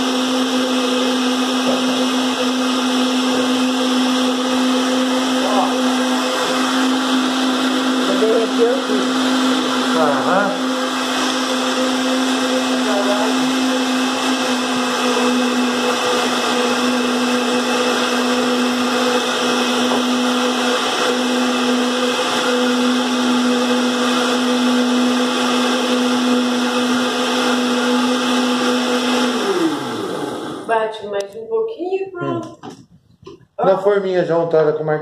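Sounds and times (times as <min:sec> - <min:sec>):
blender motor humming: 0:00.0 - 0:30.8
liquid whirring in blender jar: 0:00.0 - 0:30.8.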